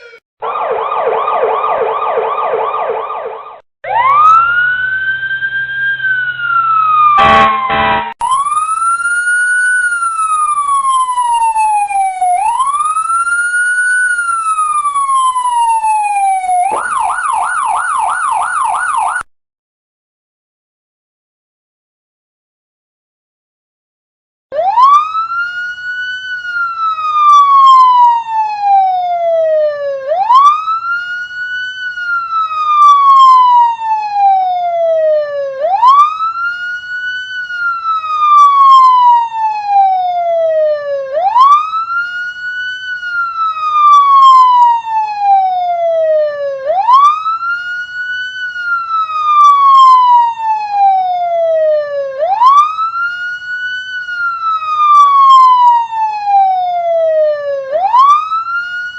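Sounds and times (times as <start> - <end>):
police siren wailing: 0.0 - 19.3, 24.5 - 58.9.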